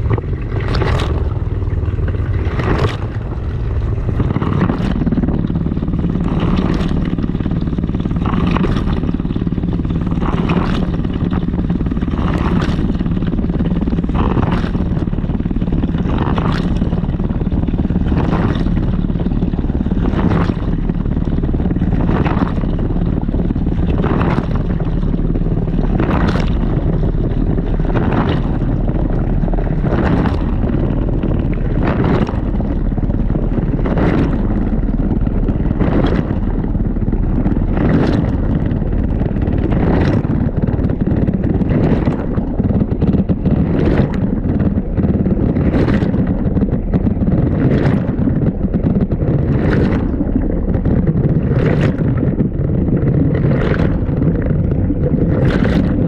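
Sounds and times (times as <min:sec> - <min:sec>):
washing machine low rumble: 0:00.0 - 0:56.0
water sloshing in drum: 0:00.0 - 0:56.0.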